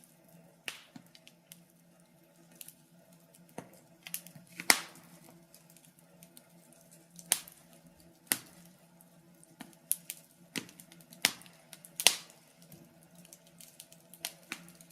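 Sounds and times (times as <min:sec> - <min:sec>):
faint steady hum: 0:00.0 - 0:14.9
wood fire crackling: 0:00.0 - 0:14.9.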